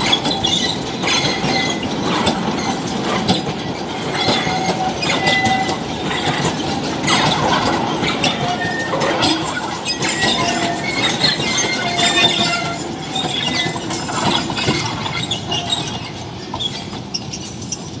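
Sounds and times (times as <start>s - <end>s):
wagons clanking: 0.0s - 18.0s
wagons rolling along track: 0.0s - 18.0s
wheel squeals: 0.0s - 18.0s.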